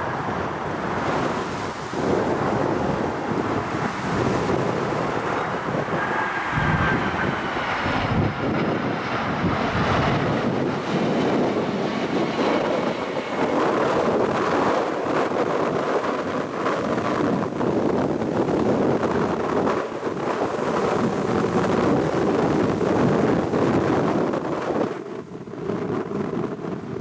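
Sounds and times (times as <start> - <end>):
jet engine rush: 0.0 - 25.3
wind buffeting the microphone: 0.0 - 27.0.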